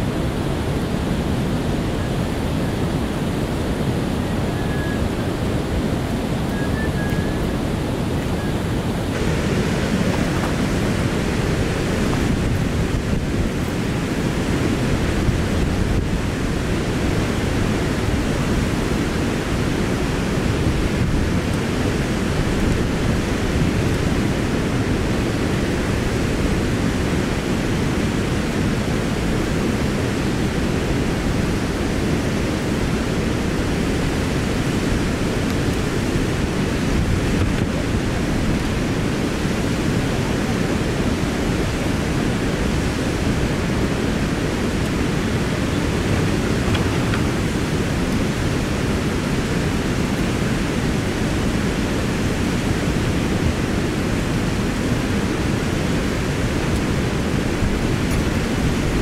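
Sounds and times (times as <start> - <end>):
rushing waterfalls and rapids: 0.0 - 59.0.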